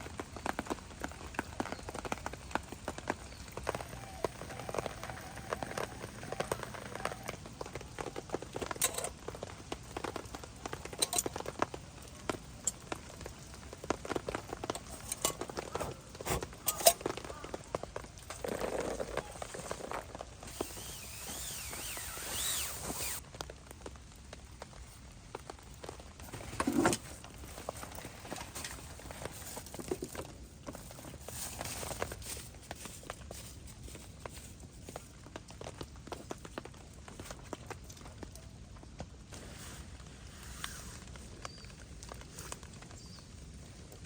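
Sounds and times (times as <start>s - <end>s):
raindrops ticking and knocking: 0.0s - 44.0s
steady hiss of rain: 0.0s - 44.0s.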